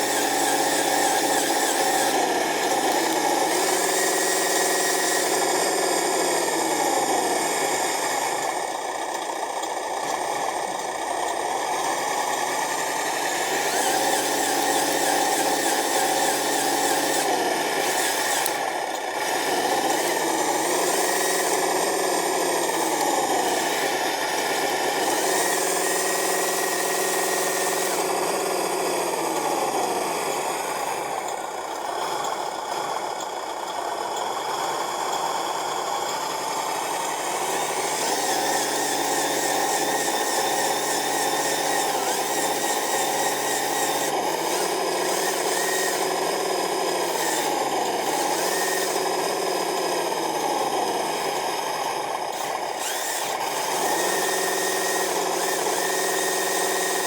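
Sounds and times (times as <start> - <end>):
model truck motor running: 0.0 - 57.0.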